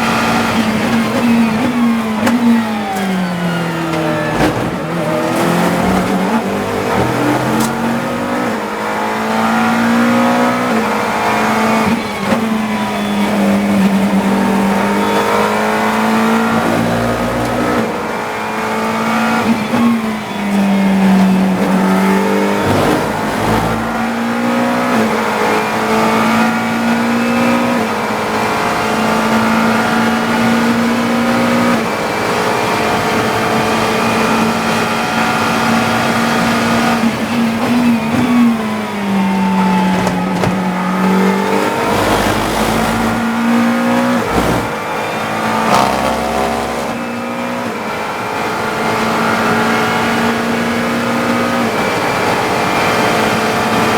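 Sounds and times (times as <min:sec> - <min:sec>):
race car engine: 0:00.0 - 0:53.9.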